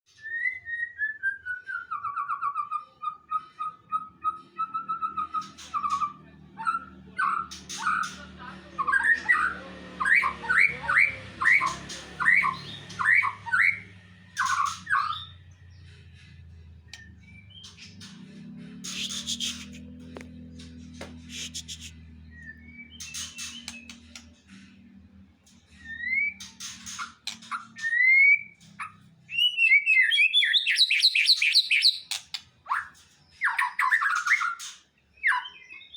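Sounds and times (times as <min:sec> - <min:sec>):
songbird singing: 0:00.1 - 0:35.9.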